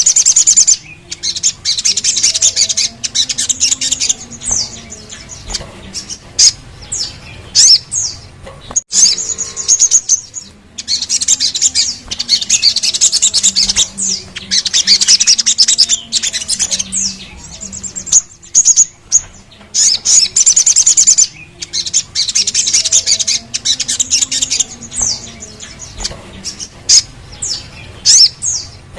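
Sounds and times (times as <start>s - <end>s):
bird singing high trills: 0.0s - 28.9s.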